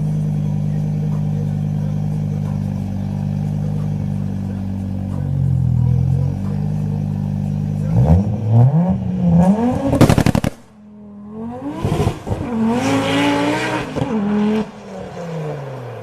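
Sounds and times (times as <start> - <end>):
car engine revving: 0.0 - 16.0
exhaust crackles: 0.0 - 16.0.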